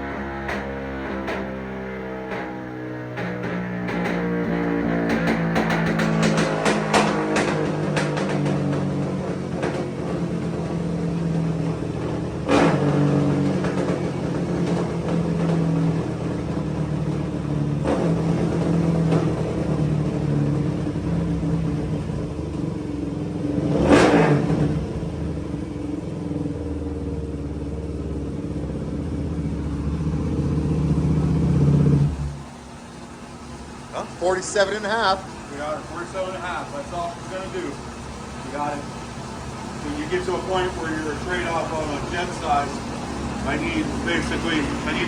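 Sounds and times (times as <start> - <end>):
motorcycle engine running under load: 0.0 - 45.0.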